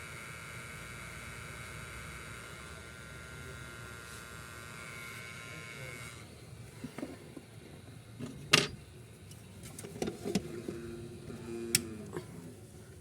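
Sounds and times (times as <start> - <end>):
hot air blower fan whine: 0.0 - 13.0.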